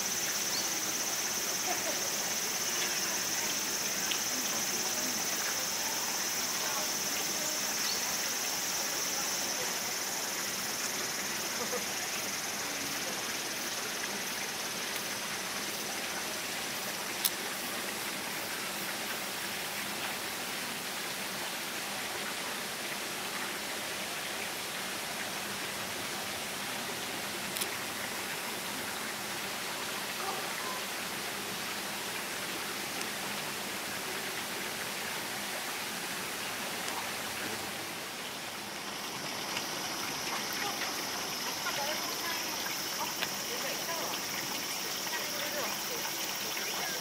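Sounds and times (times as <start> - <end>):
running water rushing: 0.0 - 47.0.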